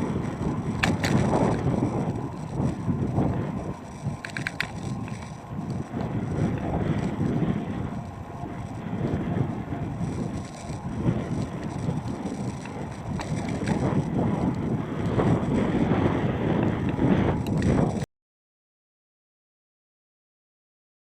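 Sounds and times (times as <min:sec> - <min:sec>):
wind buffeting microphone: 0:00.0 - 0:18.1.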